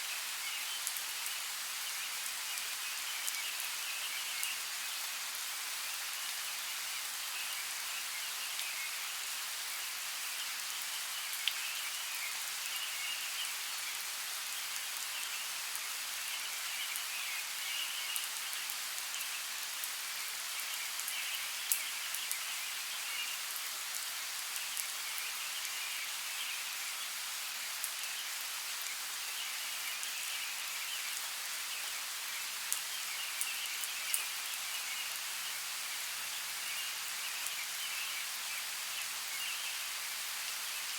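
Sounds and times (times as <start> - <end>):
light rain in forest: 0.0 - 40.9.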